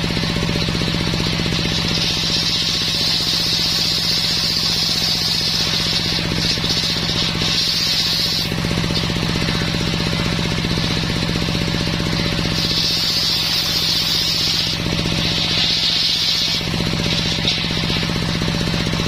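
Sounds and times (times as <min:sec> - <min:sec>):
saw blade cutting wood: 0:00.0 - 0:19.0
sawmill engine running: 0:00.0 - 0:19.0.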